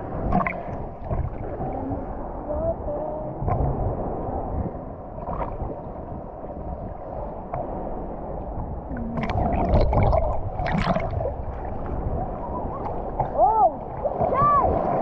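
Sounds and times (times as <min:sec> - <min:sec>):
water sloshing in small waves: 0:00.0 - 0:15.0.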